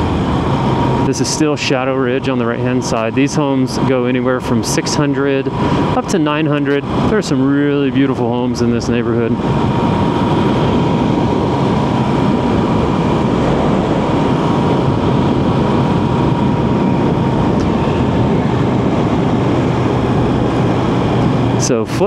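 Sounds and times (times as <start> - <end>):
faint steady whine: 0.0 - 22.0
motorcycle engine rumble: 0.0 - 22.0
road and wind rush: 0.0 - 22.0.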